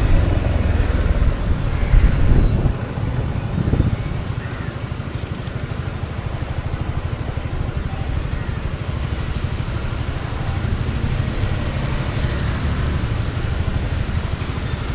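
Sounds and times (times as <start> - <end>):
scooter engine running: 0.0 - 14.9.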